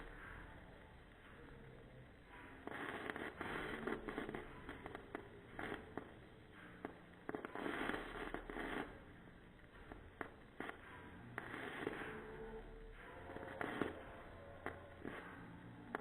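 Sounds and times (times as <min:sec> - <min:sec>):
firework fizzing and crackling: 0:01.6 - 0:16.0
firework sharp pops: 0:02.3 - 0:12.4, 0:13.0 - 0:16.0.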